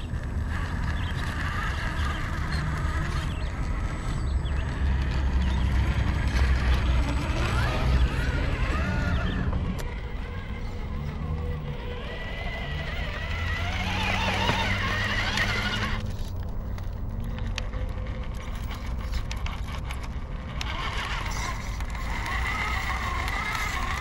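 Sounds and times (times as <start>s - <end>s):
electric motor and gearbox whining: 0.0s - 24.0s.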